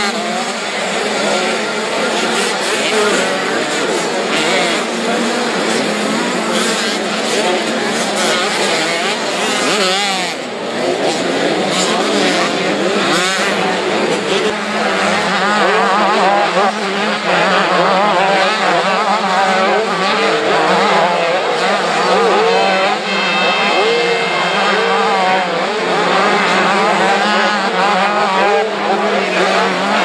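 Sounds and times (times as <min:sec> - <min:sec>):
motocross bikes revving: 0:00.0 - 0:30.0.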